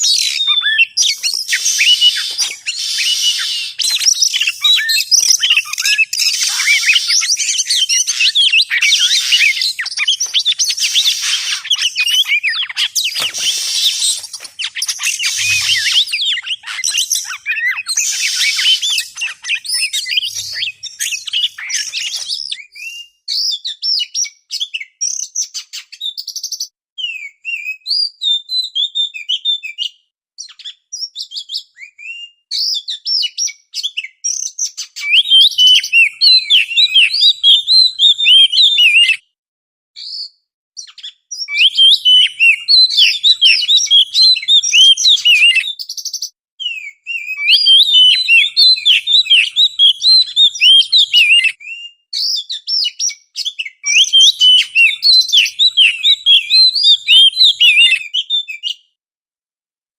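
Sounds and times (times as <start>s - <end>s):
bird singing whistles and chatter: 0.0s - 29.4s, 30.5s - 39.2s, 40.0s - 58.8s.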